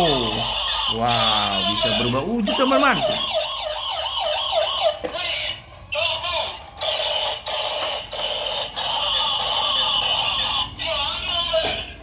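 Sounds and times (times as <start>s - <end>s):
toy electronic synthesized tune: 0.0s - 12.0s.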